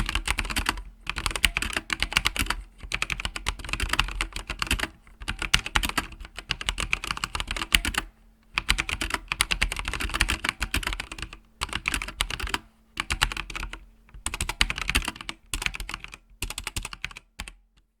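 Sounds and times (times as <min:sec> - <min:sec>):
mechanical keyboard typing: 0:00.0 - 0:17.6.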